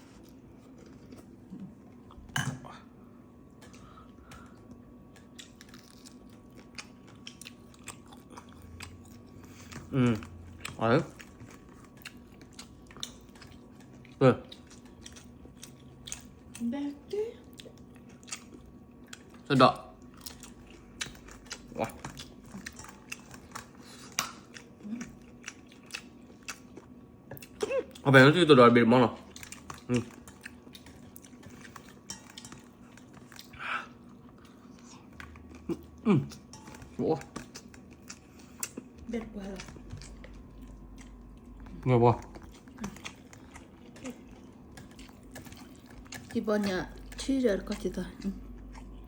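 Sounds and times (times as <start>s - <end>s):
clicks and crunches of eating: 3.6s - 16.6s, 17.5s - 28.0s, 29.2s - 39.0s, 39.6s - 47.3s
person chewing: 3.6s - 16.6s, 17.4s - 28.0s, 29.2s - 39.0s, 39.6s - 49.0s.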